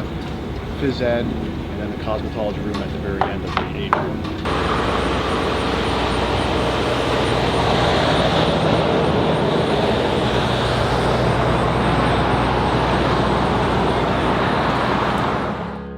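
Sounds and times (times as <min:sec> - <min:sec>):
machinery rumbling: 0:00.0 - 0:15.9.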